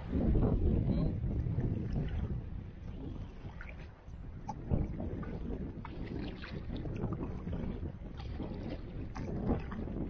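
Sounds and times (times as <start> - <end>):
water washing past kayak: 0.0 - 10.0
wind noise on microphone: 0.0 - 10.0
paddle stroking through water: 1.3 - 10.0.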